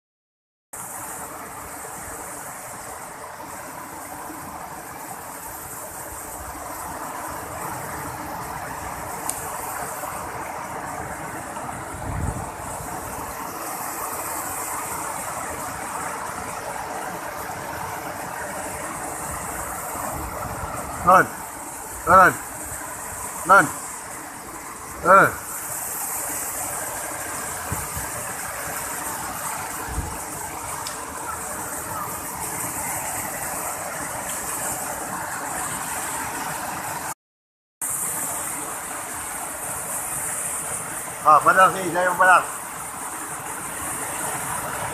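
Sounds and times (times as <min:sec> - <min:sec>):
waterfall rushing: 0:00.8 - 0:37.2, 0:37.8 - 0:44.9.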